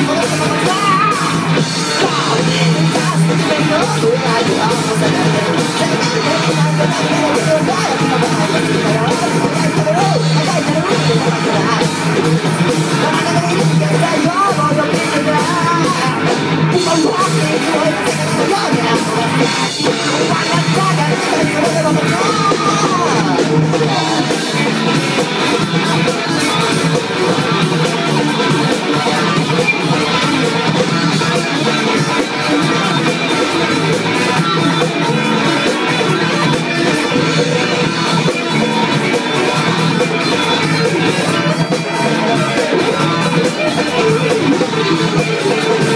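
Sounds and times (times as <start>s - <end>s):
bass guitar: 0.0s - 45.9s
drum kit with cymbals: 0.0s - 45.9s
electric guitars: 0.0s - 45.9s
lead vocal singing: 0.0s - 45.9s.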